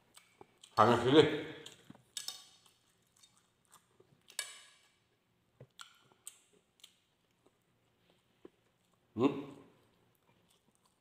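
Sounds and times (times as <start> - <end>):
person chewing: 0.0 - 0.8, 1.6 - 11.0.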